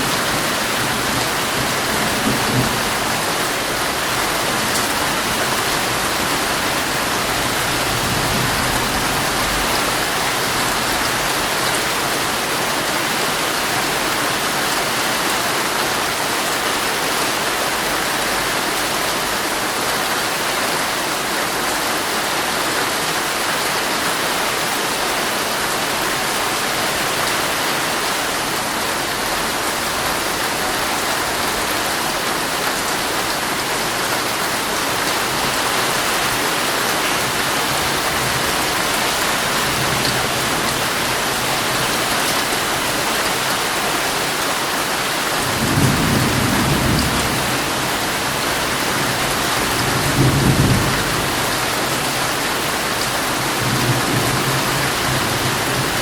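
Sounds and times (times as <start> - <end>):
heavy rain drumming on tent: 0.0 - 56.0.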